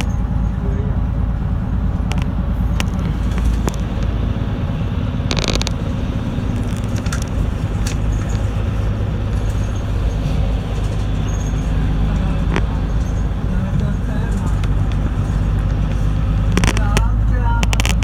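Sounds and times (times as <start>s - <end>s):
bus engine and road rumble: 0.0s - 18.0s
rapid rattle: 0.0s - 18.0s.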